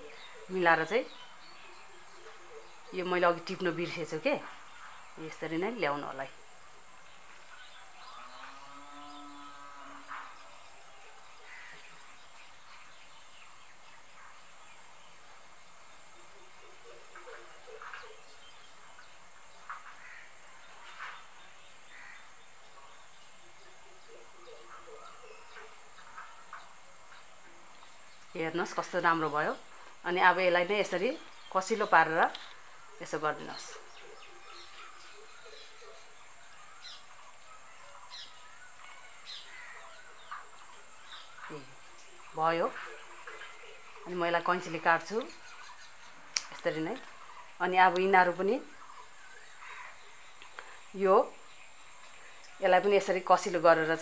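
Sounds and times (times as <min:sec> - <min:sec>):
birds calling: 0:00.0 - 0:54.0
steady high hiss: 0:00.0 - 0:54.0.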